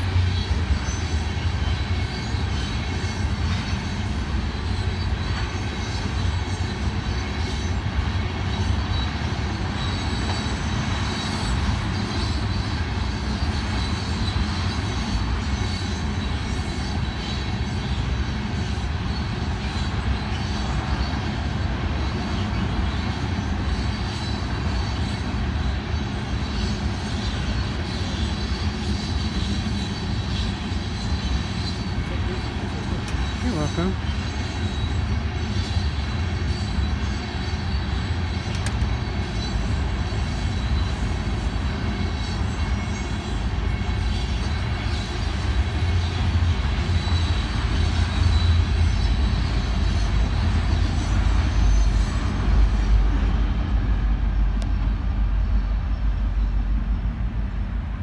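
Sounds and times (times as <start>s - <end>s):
faint high wheel squeal: 0.0s - 56.6s
freight train rolling past: 0.0s - 58.0s.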